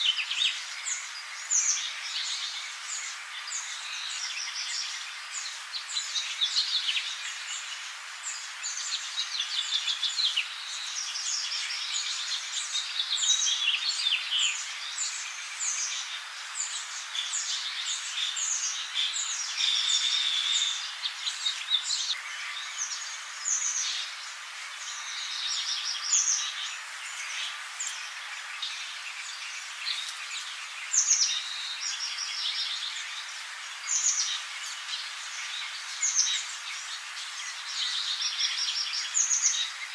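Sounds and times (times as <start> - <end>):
birds chirping and trilling: 0.0 - 39.9
forest ambience hiss: 0.0 - 39.9.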